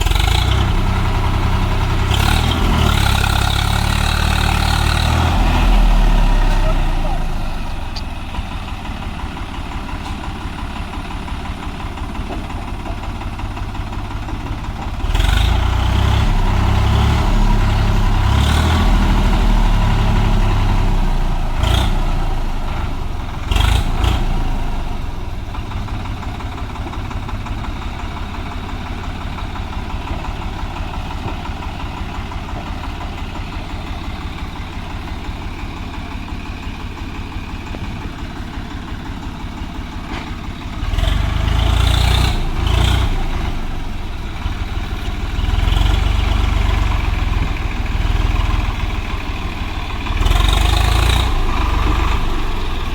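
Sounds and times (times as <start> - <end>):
tractor diesel engine revving: 0.0 - 52.9.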